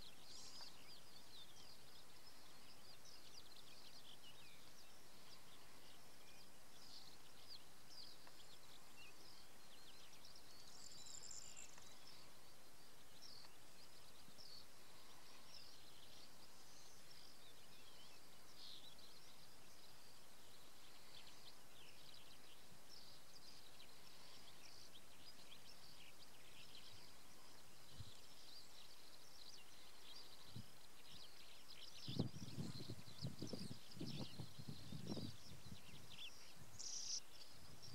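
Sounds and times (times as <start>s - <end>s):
small birds chirping: 0.0s - 37.9s
steady background hiss: 0.0s - 37.9s.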